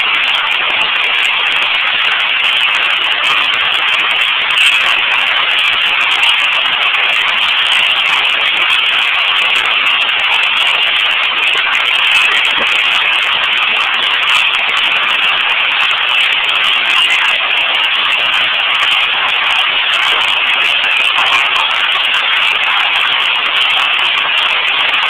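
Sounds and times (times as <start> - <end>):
hail and heavy rain pelting: 0.0 - 25.0.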